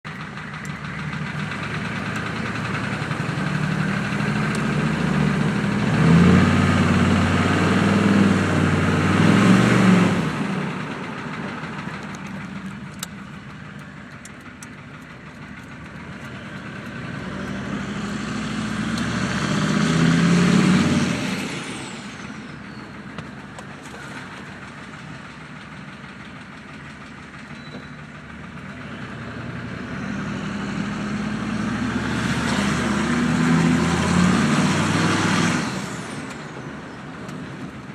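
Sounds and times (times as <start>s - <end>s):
diesel engine revving: 0.0s - 37.9s.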